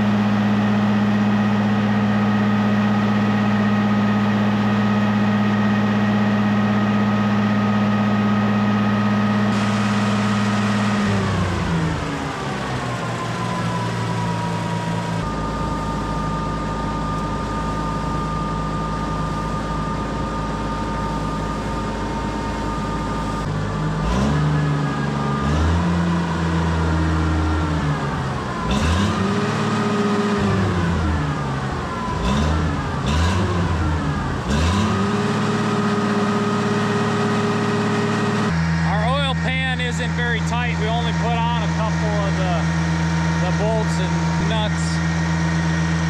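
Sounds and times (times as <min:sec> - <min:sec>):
tractor engine idling and revving: 0:00.0 - 0:46.0.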